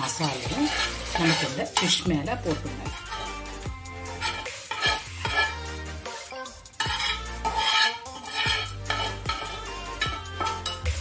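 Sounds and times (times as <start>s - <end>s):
background music: 0.0s - 11.0s
metal spatula scraping a pan: 0.0s - 11.0s.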